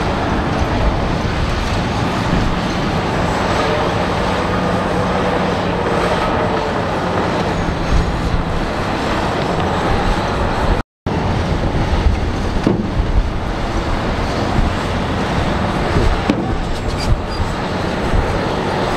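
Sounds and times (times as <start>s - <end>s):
heavy diesel engines running: 0.0s - 18.9s.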